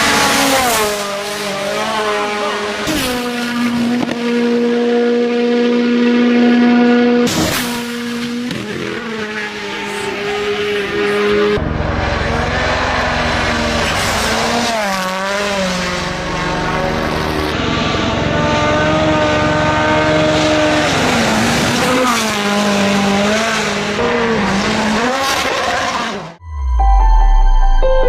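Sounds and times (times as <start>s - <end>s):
rally car engine revving: 0.0s - 26.4s.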